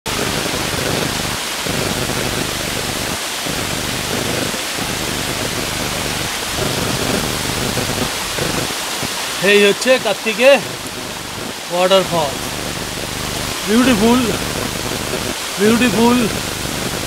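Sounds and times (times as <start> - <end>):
waterfall rushing: 0.1 - 17.0.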